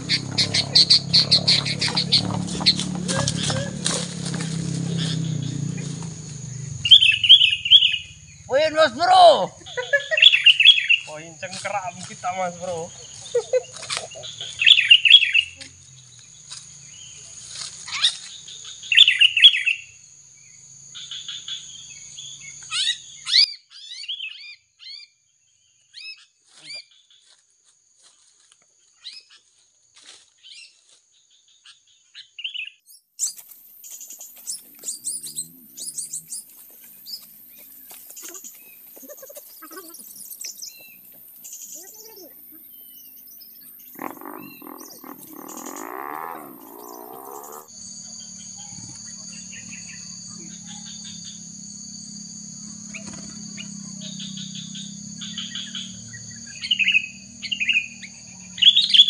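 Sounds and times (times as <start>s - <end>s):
birds chattering and chirping: 0.0s - 27.4s, 30.4s - 59.0s.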